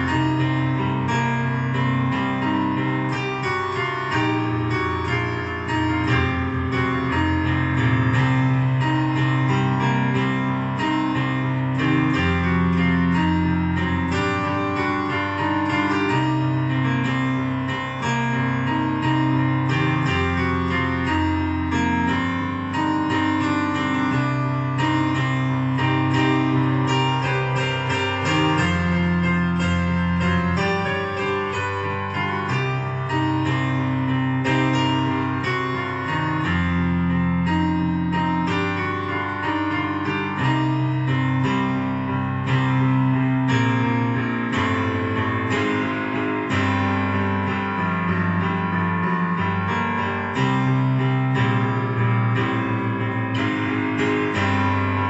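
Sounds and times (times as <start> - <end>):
electronic keyboard melody: 0.0 - 55.0.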